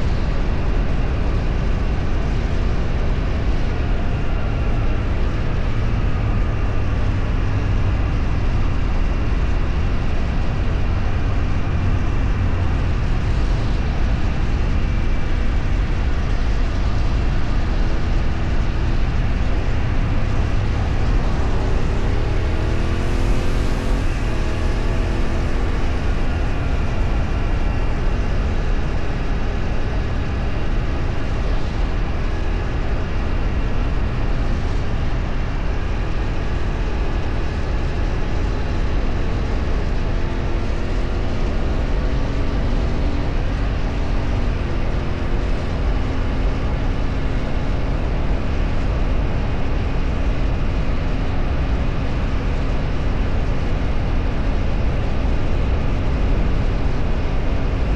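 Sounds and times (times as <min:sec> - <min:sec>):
heavy wind rumble: 0:00.0 - 0:57.9
vehicle engine running: 0:00.0 - 0:57.9.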